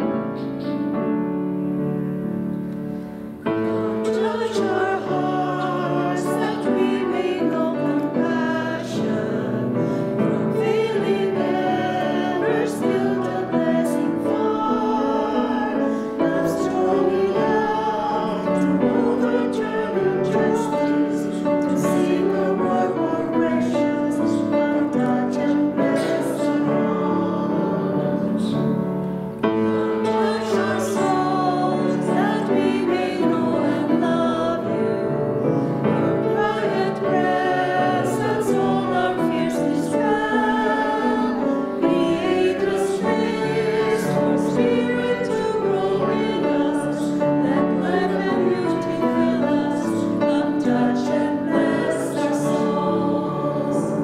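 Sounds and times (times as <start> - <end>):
grand piano chords: 0.0 - 54.0
voices singing a hymn: 0.0 - 54.0.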